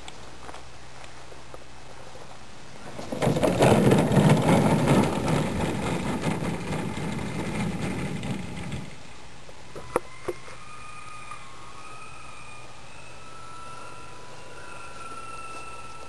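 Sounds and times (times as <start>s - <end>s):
glider rolling over grass: 0.0s - 16.0s.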